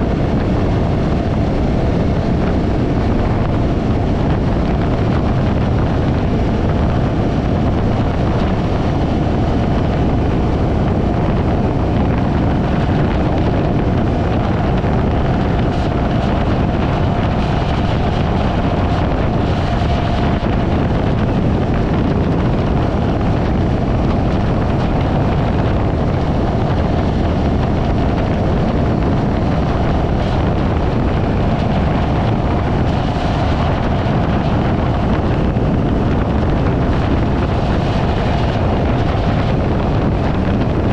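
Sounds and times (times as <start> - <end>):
motorcycle engine: 0.0 - 40.9
road noise: 0.0 - 40.9
wind rushing over microphone: 0.0 - 40.9.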